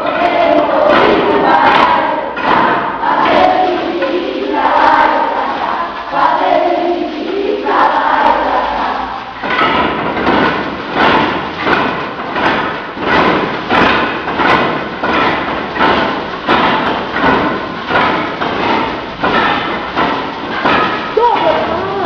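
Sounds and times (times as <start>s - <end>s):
rattles shaking: 0.0s - 22.0s
wooden sticks struck: 0.0s - 22.0s.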